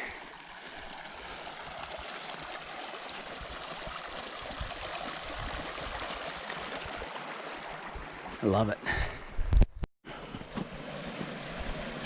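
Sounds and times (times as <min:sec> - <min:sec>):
stream running over rock: 0:00.0 - 0:09.0, 0:10.3 - 0:12.0.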